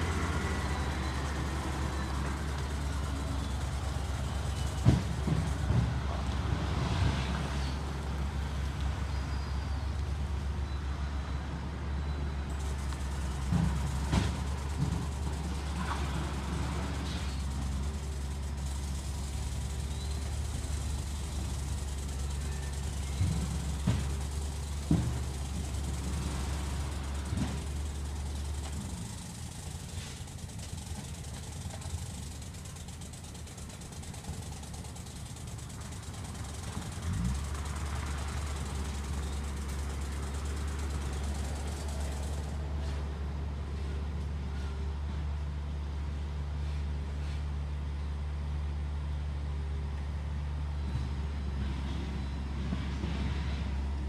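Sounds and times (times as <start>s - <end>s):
heavy machinery engine humming: 0.0s - 54.0s.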